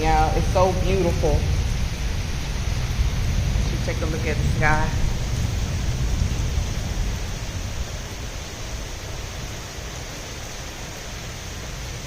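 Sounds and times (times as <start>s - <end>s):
low rumble: 0.0s - 10.1s
steady rain falling: 0.0s - 12.0s.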